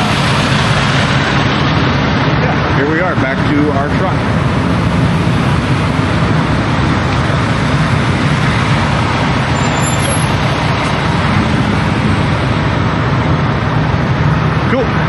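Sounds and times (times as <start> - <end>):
diesel truck engines idling: 0.0 - 15.0.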